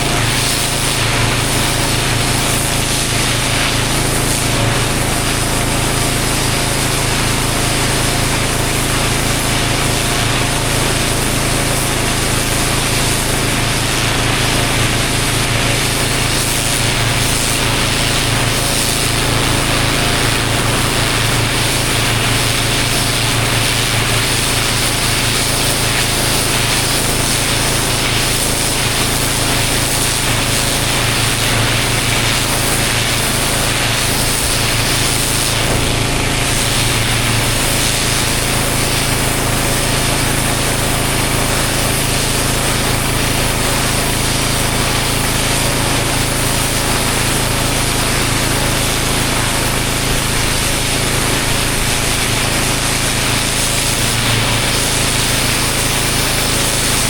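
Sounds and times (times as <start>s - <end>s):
pressure washer engine running: 0.0s - 57.0s
water jet hissing on paving: 0.0s - 57.0s.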